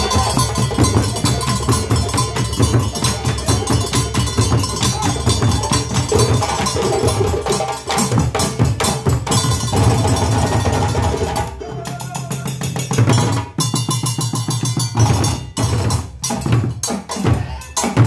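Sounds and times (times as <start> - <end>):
drum ensemble playing fast rhythm: 0.0 - 18.0.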